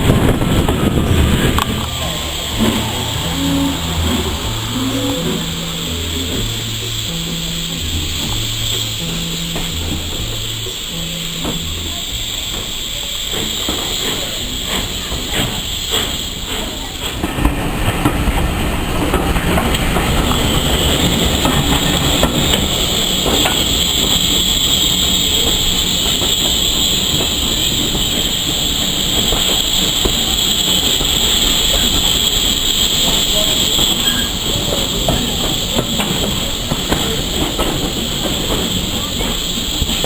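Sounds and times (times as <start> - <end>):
steam train rushing: 0.0 - 40.0
train wheel clicks: 0.0 - 40.0.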